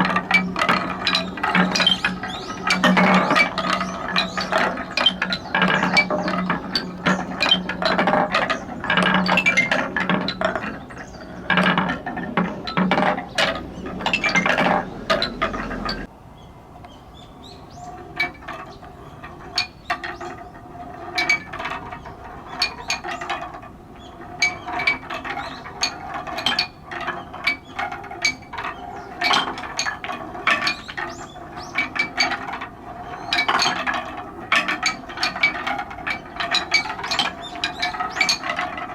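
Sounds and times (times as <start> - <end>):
balls clattering down wooden run: 0.0 - 16.1, 17.8 - 38.9.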